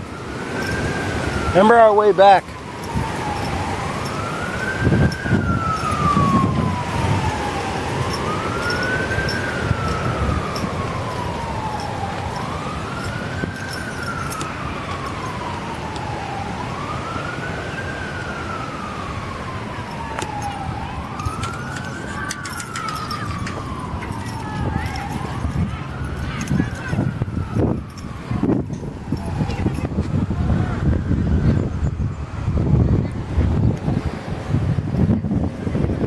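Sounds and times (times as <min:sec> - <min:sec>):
siren wailing: 0:00.0 - 0:33.2.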